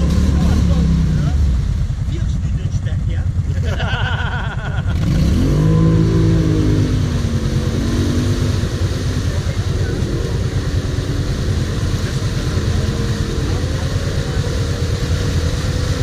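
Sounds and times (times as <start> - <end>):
engine revving: 0.0 - 3.7, 4.8 - 16.0
atv engine idling: 0.0 - 16.0.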